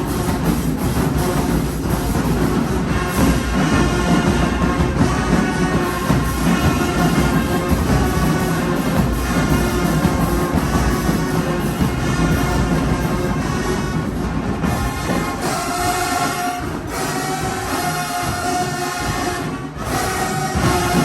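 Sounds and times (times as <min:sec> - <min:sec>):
held brass chords: 0:00.0 - 0:21.0
marching band playing: 0:00.0 - 0:21.0.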